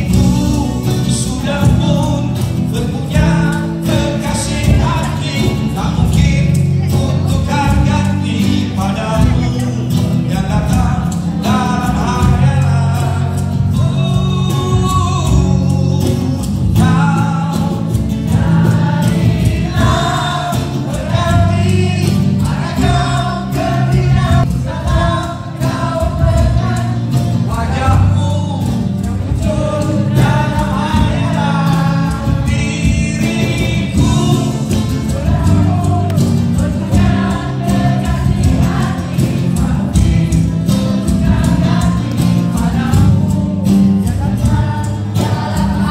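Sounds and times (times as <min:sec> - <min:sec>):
live band playing: 0:00.0 - 0:45.9.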